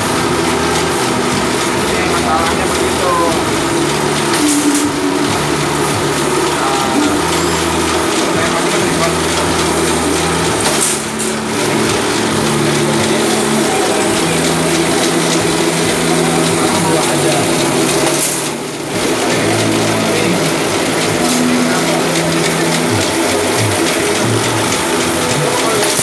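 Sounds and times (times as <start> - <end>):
machine motor hum: 0.0 - 26.0.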